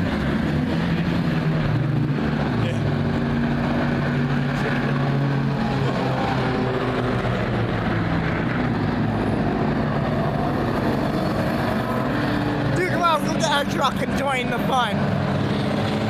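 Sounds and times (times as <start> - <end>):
vehicle engines droning: 0.0 - 16.0.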